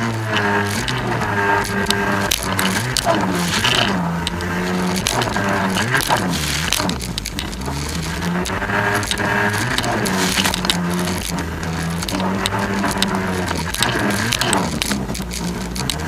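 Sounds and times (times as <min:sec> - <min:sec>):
jet ski engine revving: 0:00.0 - 0:16.0
sharp ticks and knocks: 0:00.0 - 0:16.0.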